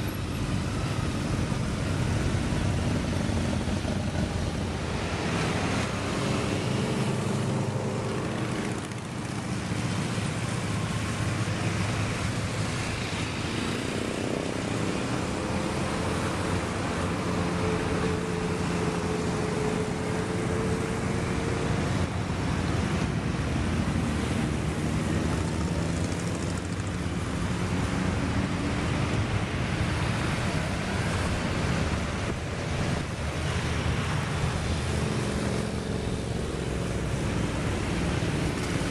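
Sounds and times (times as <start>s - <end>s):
motorcycles riding past: 0.0s - 38.9s.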